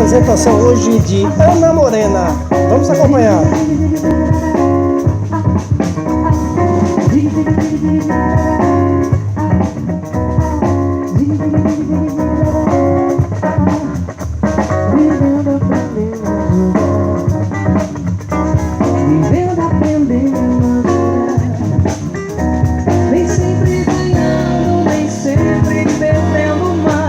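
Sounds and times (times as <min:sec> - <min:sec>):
bass line: 0:00.0 - 0:27.0
drum kit: 0:00.0 - 0:27.0
guitar: 0:00.0 - 0:27.0.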